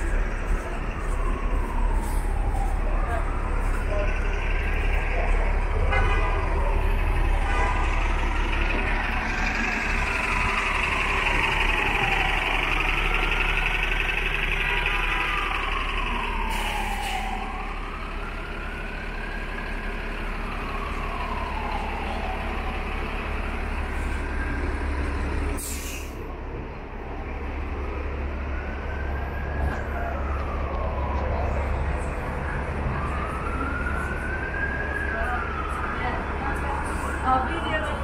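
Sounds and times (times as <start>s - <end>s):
siren wailing: 0.0s - 25.6s, 27.6s - 38.0s
city traffic rumble: 0.0s - 38.0s.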